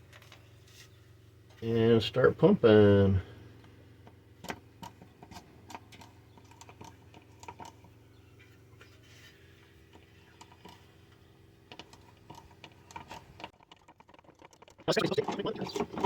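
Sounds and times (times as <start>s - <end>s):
faint steady hum: 0.0s - 13.5s.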